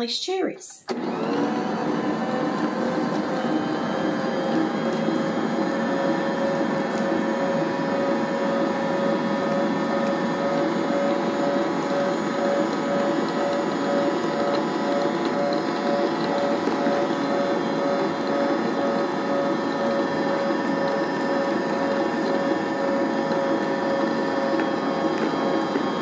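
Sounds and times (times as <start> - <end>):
electric stand mixer humming: 0.9 - 26.0.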